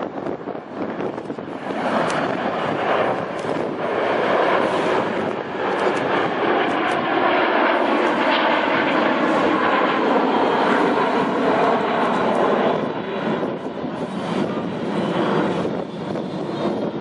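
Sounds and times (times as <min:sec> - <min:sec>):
jet engines flying overhead: 0:00.0 - 0:17.0.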